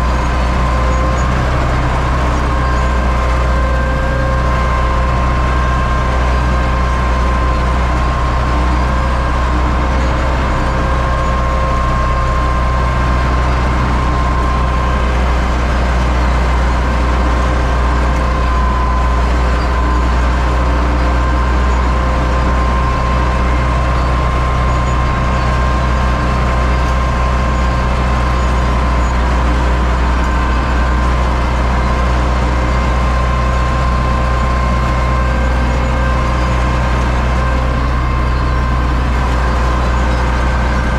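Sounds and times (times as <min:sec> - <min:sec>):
constant high whine: 0:00.0 - 0:40.9
tractor diesel engine running: 0:00.0 - 0:40.9.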